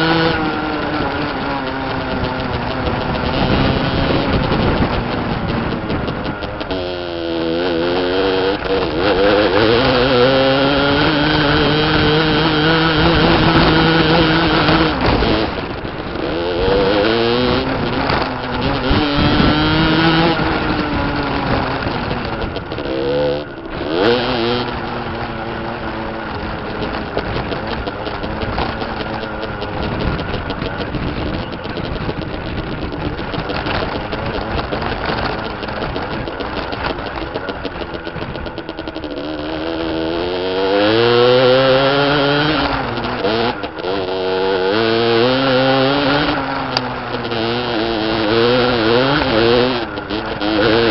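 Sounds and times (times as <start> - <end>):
two-stroke engine revving: 0.0 - 50.9.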